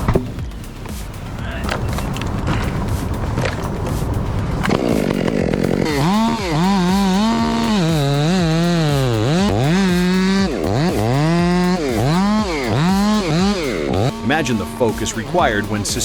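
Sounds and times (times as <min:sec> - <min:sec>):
chainsaw engine revving: 0:02.2 - 0:16.0.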